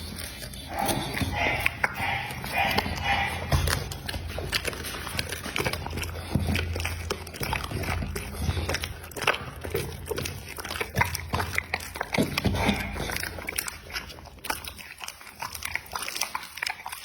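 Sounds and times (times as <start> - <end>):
dog chewing food: 0.0 - 17.0.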